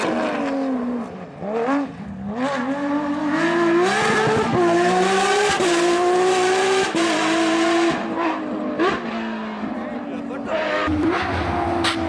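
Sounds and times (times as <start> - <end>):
car engine revving with upshifts: 0.0 - 12.0.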